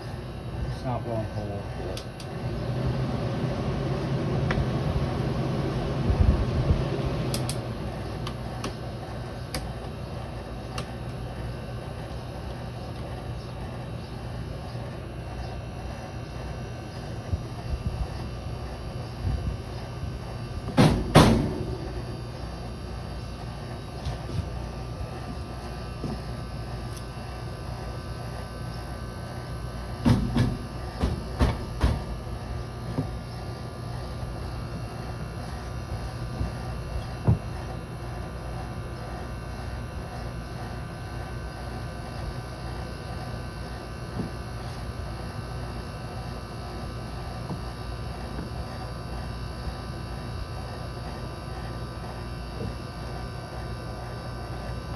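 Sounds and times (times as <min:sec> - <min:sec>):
air conditioner humming: 0:00.0 - 0:54.9.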